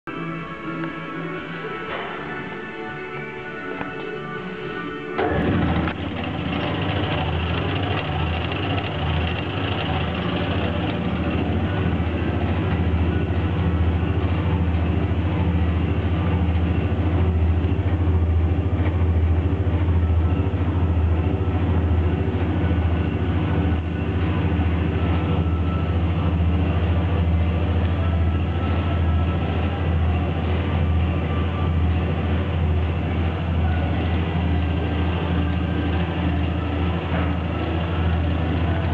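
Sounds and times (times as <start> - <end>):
deburring machine humming: 0.1 - 38.9.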